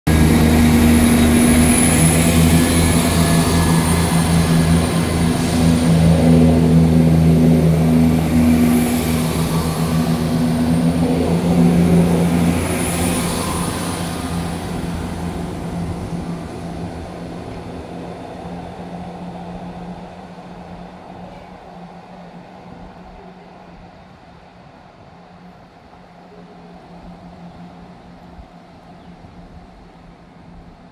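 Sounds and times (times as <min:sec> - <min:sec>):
diesel train engine: 0:00.0 - 0:30.9.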